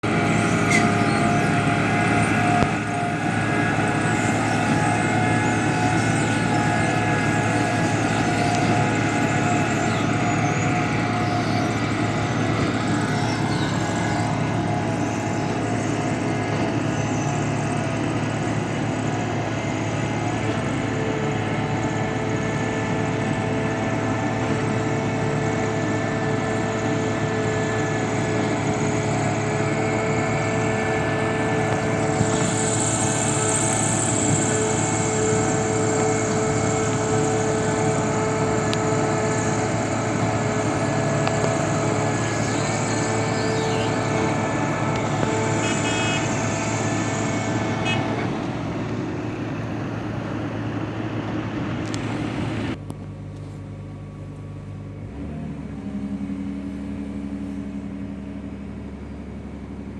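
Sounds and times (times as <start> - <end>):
drill rig engine droning: 0.0 - 53.5, 54.2 - 59.9
mechanical whine: 0.0 - 53.5.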